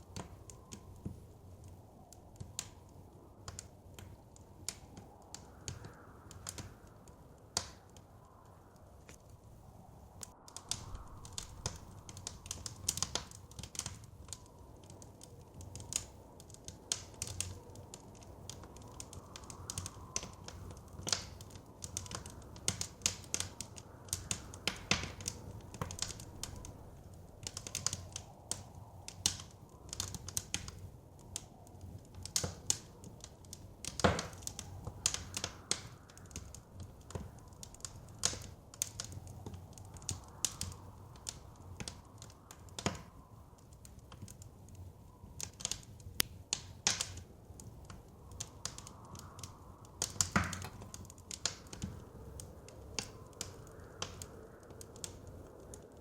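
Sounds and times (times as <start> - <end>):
low rumble of flames: 0.0 - 56.0
wind: 0.0 - 56.0
wood fire crackling and popping: 0.0 - 56.0.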